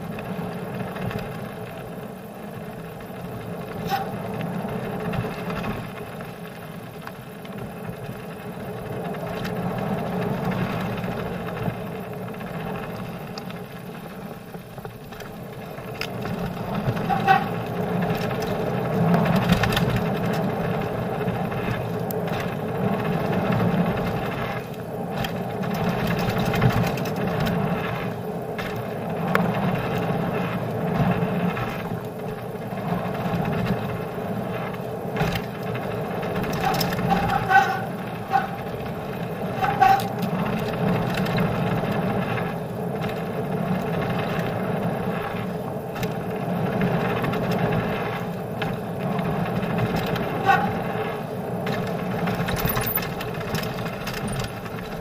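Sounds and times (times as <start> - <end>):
bike rattling: 0.0 - 55.0
bike tyres rumbling on gravel: 0.0 - 55.0.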